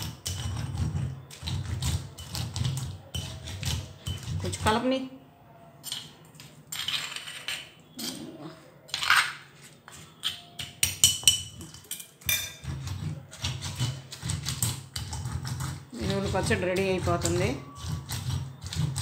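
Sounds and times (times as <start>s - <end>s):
spoon scraping stone mortar: 0.0s - 4.9s, 5.8s - 19.0s.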